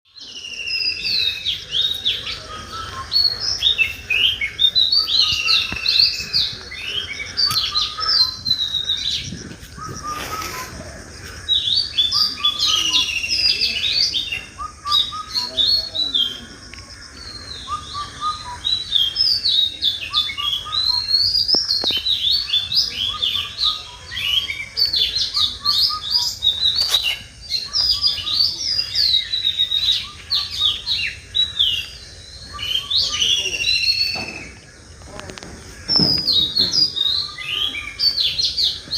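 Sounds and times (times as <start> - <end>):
songbirds chirping and singing: 0.1 - 38.9.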